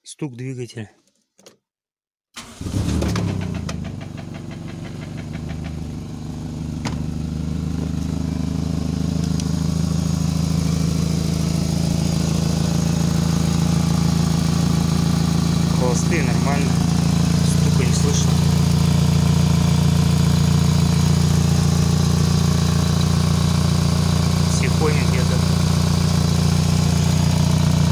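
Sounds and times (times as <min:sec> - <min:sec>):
car engine starting and running: 0:02.4 - 0:27.9
rapid engine knocking: 0:03.2 - 0:08.7, 0:09.5 - 0:27.9.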